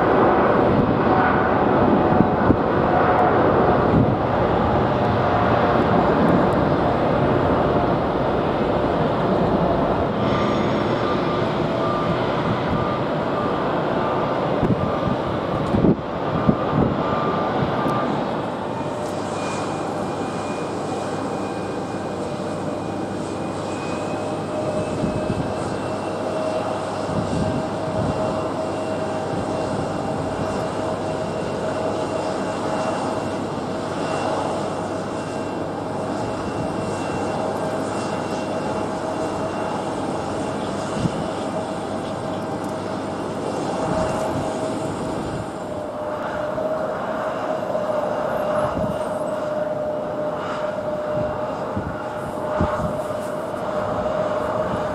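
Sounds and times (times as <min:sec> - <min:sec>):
jet engine roar and whine: 0:00.0 - 0:54.9.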